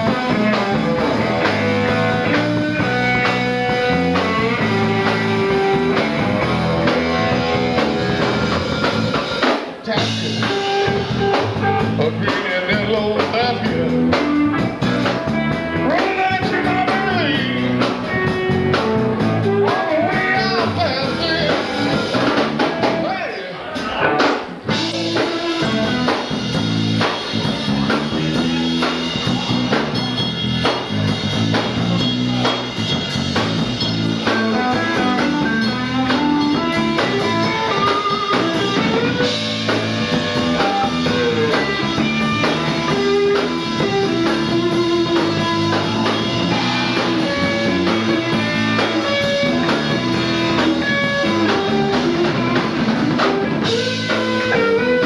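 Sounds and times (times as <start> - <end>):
guitar melodic lines: 0.0 - 55.0
live rock band playing: 0.0 - 55.0.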